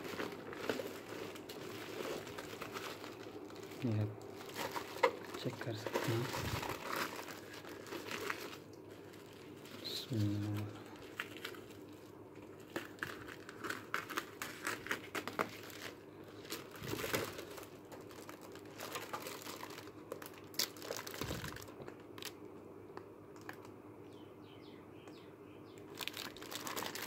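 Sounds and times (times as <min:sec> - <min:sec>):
bubble wrap crinkling: 0:00.0 - 0:22.4, 0:25.9 - 0:27.0.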